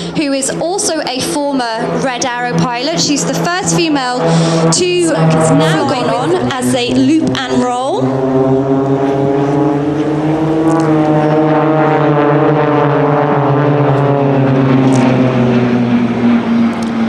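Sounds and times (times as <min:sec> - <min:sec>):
propeller planes droning: 0:00.0 - 0:17.0.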